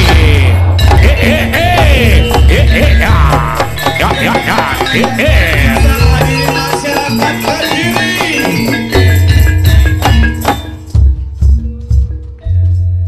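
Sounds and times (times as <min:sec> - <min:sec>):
clattering and jingling percussion: 0:00.0 - 0:13.0
wavering pitched melody: 0:00.0 - 0:13.0.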